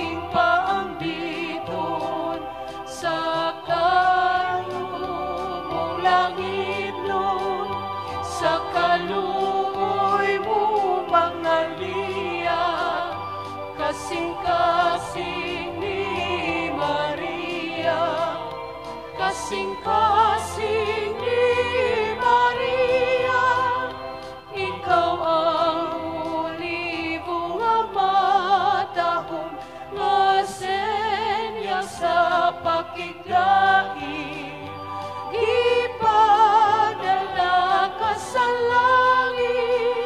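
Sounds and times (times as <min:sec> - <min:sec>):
steady musical accompaniment: 0:00.0 - 0:40.0
voices singing a hymn with vibrato: 0:00.0 - 0:40.0.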